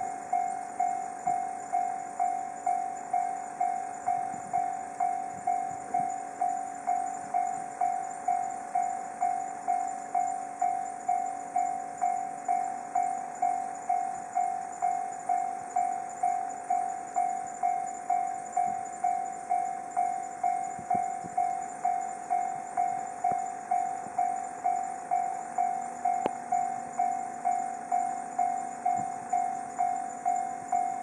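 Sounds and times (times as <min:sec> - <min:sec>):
level crossing electronic bell: 0:00.0 - 0:31.0.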